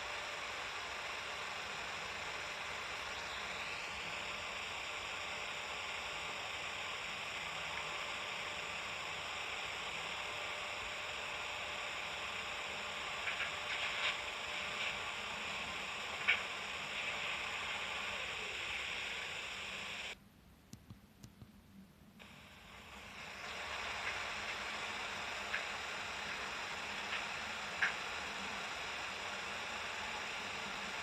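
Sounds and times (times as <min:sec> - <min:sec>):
vacuum cleaner running: 0:00.0 - 0:20.2, 0:22.2 - 0:31.0.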